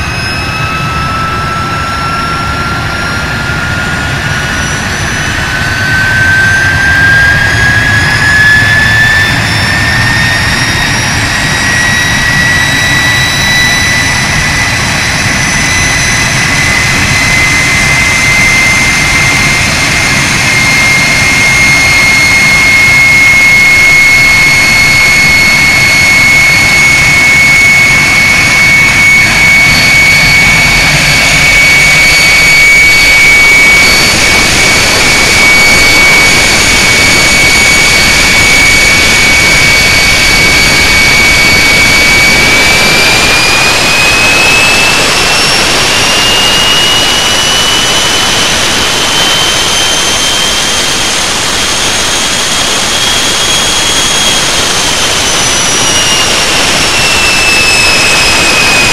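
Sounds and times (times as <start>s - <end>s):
jet engine roar and whine: 0.0s - 58.9s.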